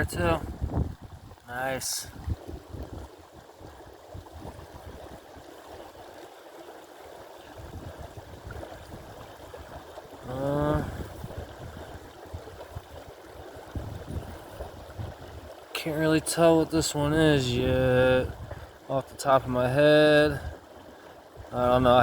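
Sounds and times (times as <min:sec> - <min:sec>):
creek water running: 0:00.0 - 0:22.0.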